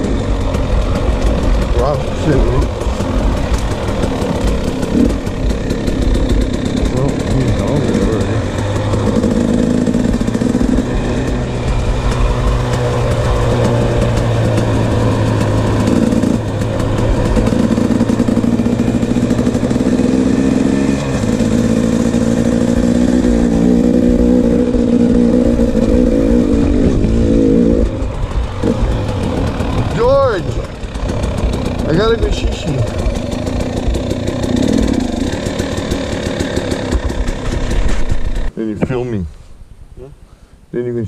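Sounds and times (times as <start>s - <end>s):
dirt bike engine running: 0.0s - 39.0s.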